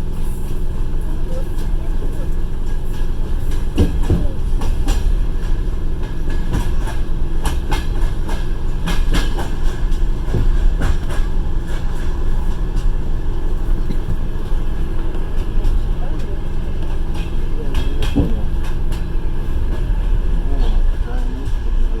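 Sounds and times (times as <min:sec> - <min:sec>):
train rumbling: 0:00.0 - 0:22.0
wheels clacking over rail joints: 0:00.0 - 0:22.0.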